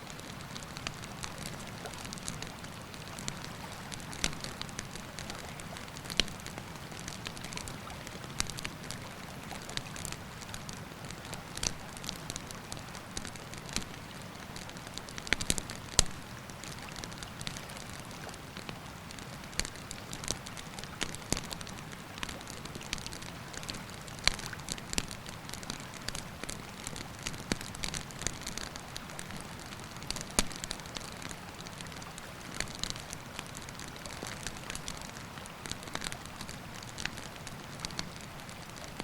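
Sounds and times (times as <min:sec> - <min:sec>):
campfire crackling and popping: 0:00.1 - 0:39.0.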